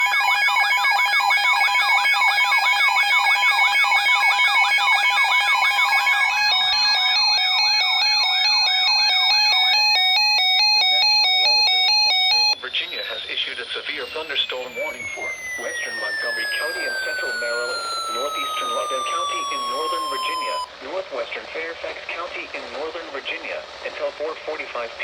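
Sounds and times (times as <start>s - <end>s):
electronic siren: 0.0s - 20.7s
steady high tones: 0.0s - 20.7s.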